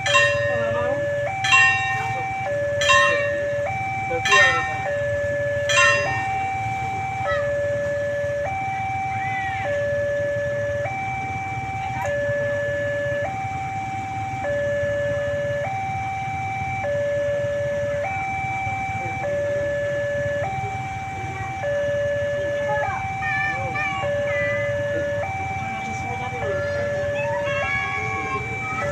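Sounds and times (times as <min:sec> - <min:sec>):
two-tone warning siren: 0:00.0 - 0:28.9.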